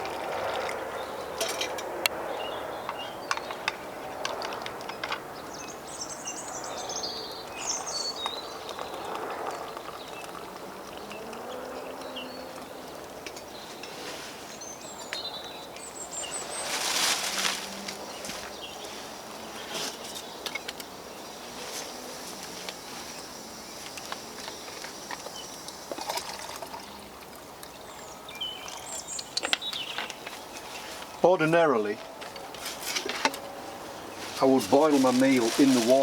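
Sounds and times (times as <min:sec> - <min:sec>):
small birds chirping: 0:00.8 - 0:36.0.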